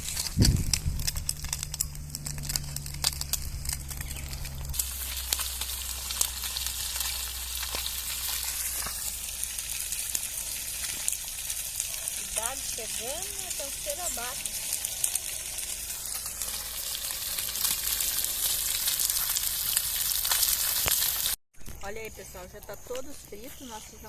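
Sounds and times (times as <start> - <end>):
fish frying in hot oil: 0.0 - 21.4.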